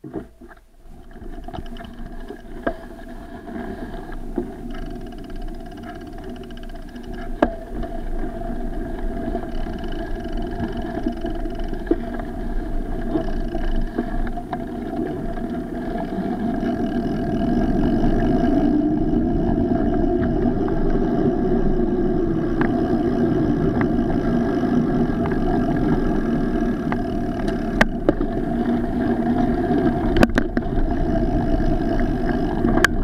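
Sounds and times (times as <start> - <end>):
bicycle tyres rumbling on gravel: 0.0 - 33.0.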